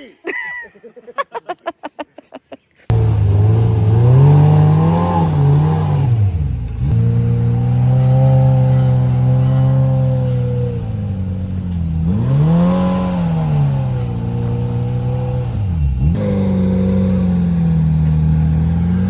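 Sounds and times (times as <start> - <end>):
utv engine revving: 2.9 - 19.0.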